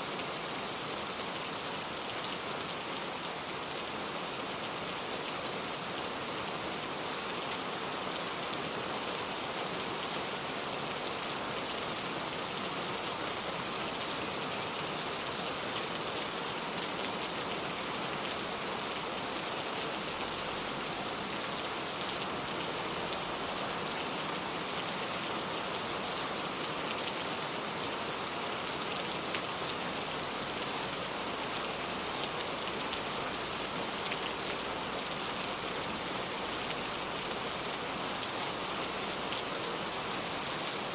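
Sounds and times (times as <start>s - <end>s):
heavy rain pouring: 0.1s - 40.9s.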